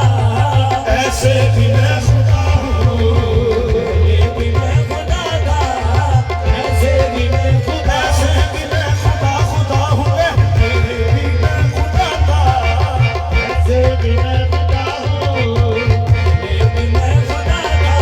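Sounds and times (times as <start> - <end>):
person singing verses: 0.0 - 18.0
tabla beating: 0.0 - 18.0.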